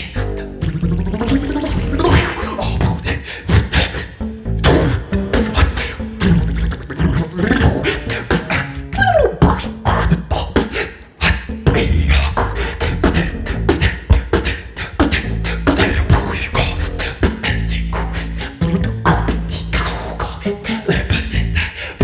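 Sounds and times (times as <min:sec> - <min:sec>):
low double bass notes: 0:00.0 - 0:10.5, 0:11.1 - 0:21.8
person beatboxing: 0:00.0 - 0:22.0.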